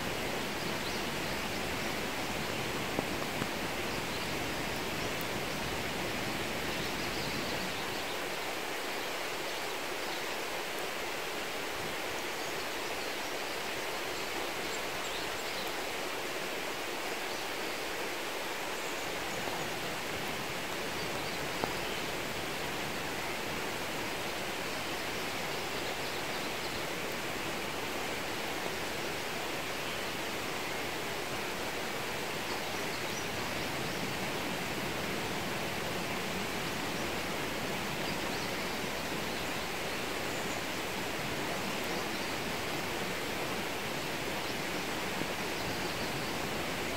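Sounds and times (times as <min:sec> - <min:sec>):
rain falling on plants: 0:00.0 - 0:46.9.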